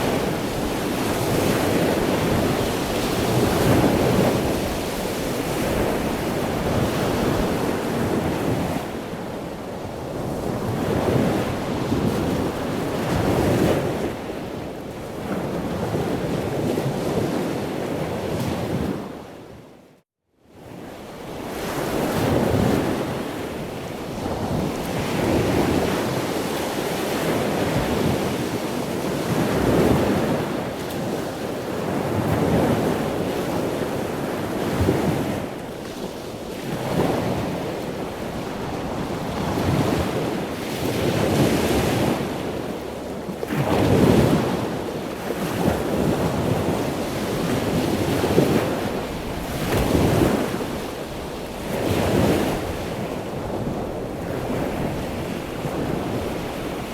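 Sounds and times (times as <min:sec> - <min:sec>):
ocean waves rushing and washing back: 0:00.0 - 0:19.8, 0:21.0 - 0:56.9.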